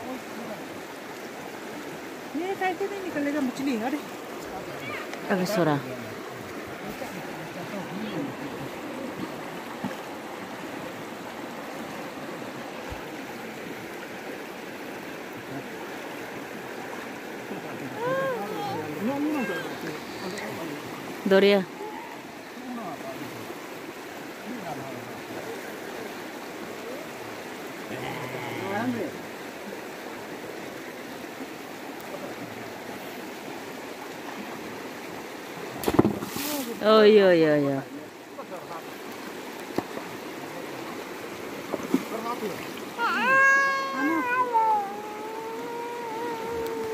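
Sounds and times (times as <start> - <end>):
river water rushing over rocks: 0.0 - 46.9.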